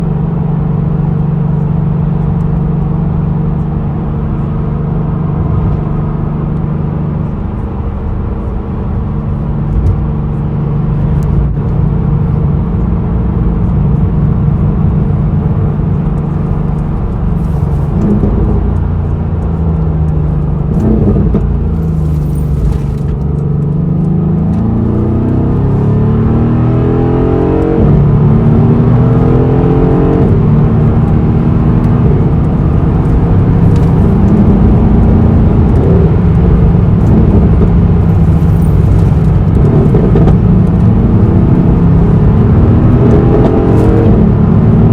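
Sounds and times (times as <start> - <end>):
car engine idling and revving: 0.0 - 44.9.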